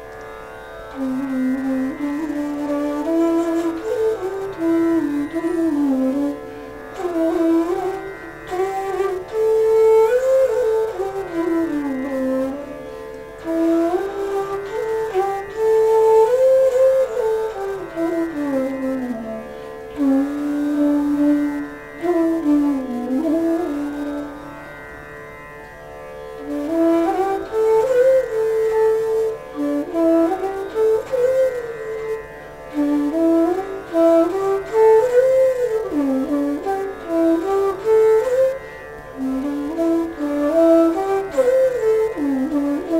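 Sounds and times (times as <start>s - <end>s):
bamboo flute melody: 0.0s - 24.8s, 26.2s - 42.9s.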